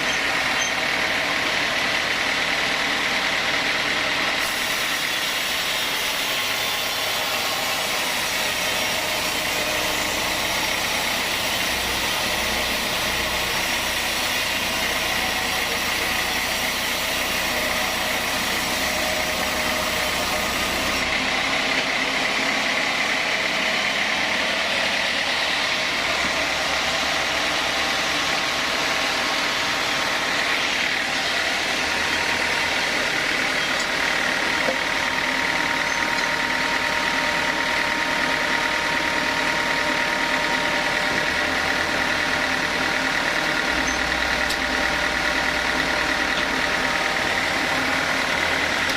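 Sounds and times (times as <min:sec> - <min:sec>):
motor drone: 0:00.0 - 0:48.9.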